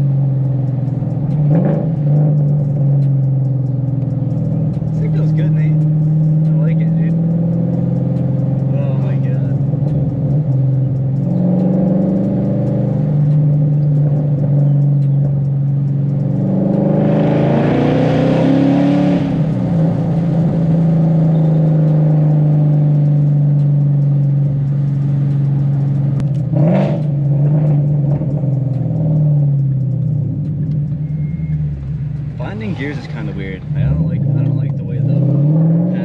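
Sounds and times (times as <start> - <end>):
car engine exhaust from cabin: 0.0 - 36.0.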